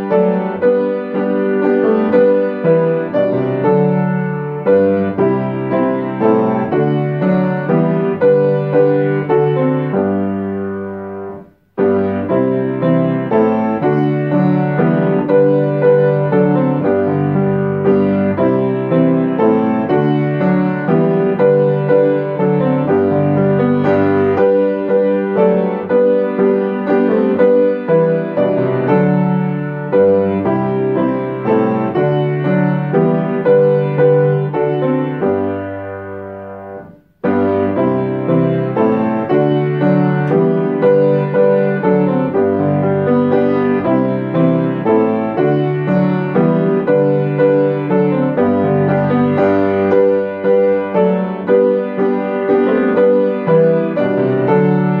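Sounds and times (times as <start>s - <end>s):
upright piano playing hymn chords: 0.0s - 55.0s.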